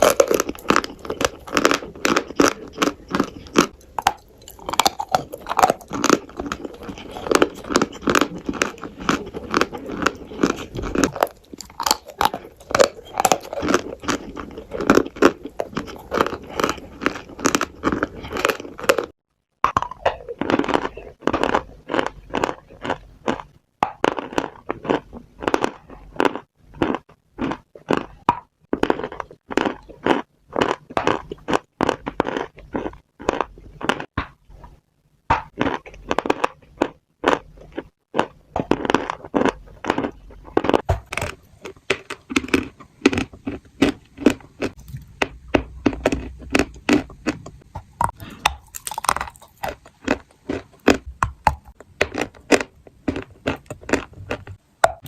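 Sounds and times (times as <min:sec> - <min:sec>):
crunchy food being chewed: 0:00.0 - 0:55.0.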